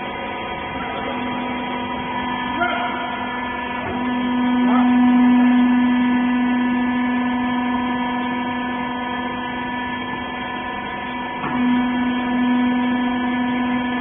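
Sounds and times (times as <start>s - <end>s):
motor and pump humming: 0.0s - 14.0s.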